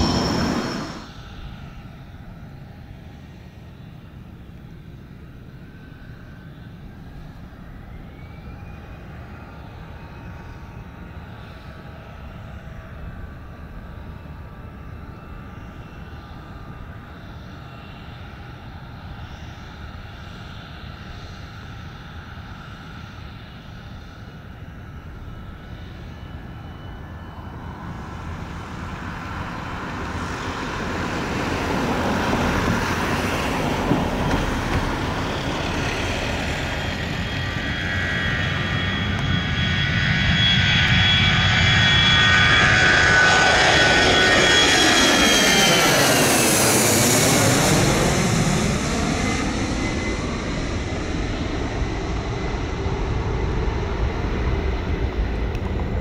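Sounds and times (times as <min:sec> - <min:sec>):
distant jet rumble: 0:00.0 - 0:56.0
high jet engine whine: 0:00.0 - 0:56.0.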